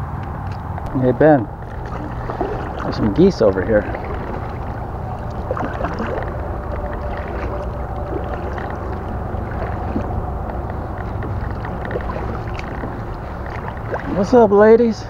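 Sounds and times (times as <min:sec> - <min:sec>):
low rumble: 0:00.0 - 0:15.0
paddle water swishing and dripping: 0:01.5 - 0:15.0.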